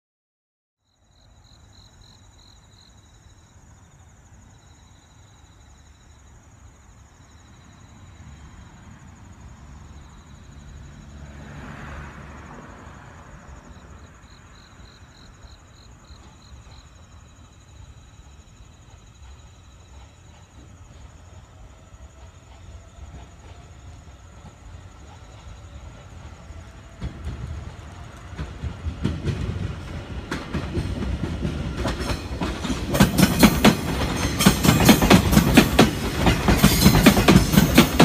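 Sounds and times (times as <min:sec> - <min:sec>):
crickets chirping: 0:00.8 - 0:38.0
train rumbling on tracks: 0:01.2 - 0:38.0.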